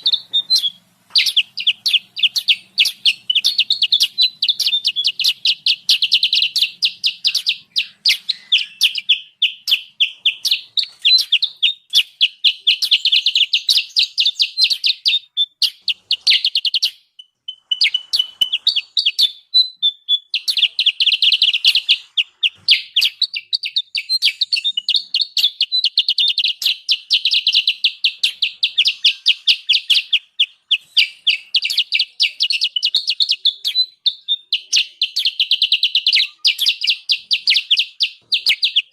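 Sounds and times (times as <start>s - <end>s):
bird chattering chirps: 0.0s - 38.9s.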